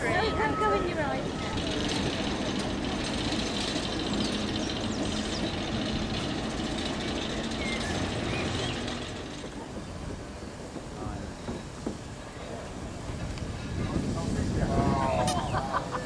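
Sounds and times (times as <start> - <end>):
locomotive engine drone: 0.0 - 16.0
steam hissing: 0.0 - 16.0.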